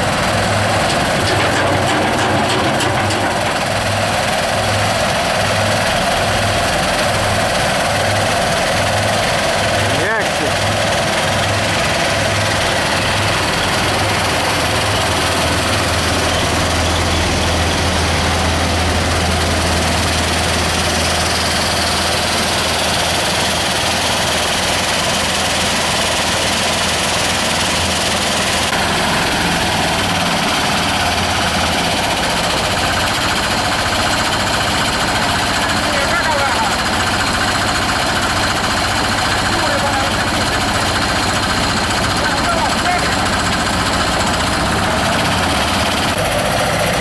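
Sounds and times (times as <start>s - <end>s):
constant broad machinery noise: 0.0s - 47.0s
low engine drone: 0.0s - 47.0s.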